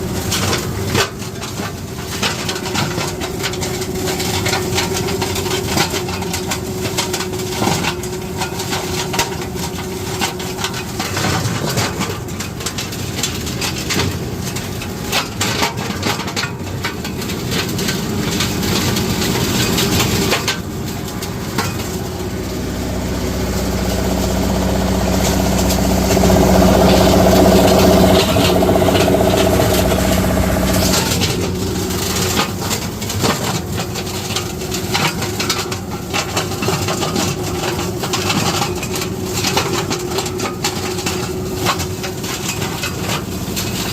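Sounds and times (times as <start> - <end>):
flail mower shredding: 0.0 - 43.9
tractor engine: 0.0 - 43.9.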